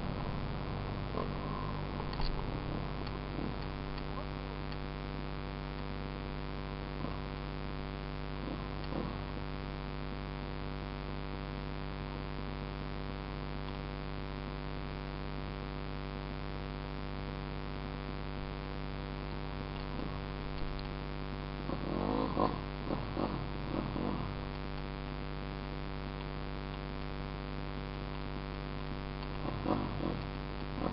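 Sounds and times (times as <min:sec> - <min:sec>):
low electrical hum: 0:00.0 - 0:30.9.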